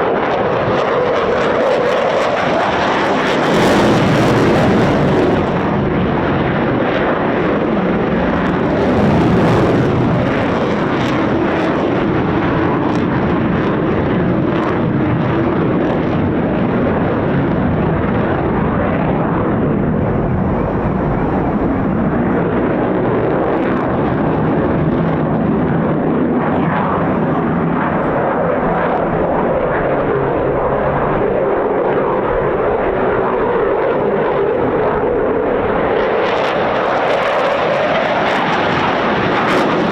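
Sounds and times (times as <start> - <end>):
fighter jet engines roaring: 0.0 - 39.9.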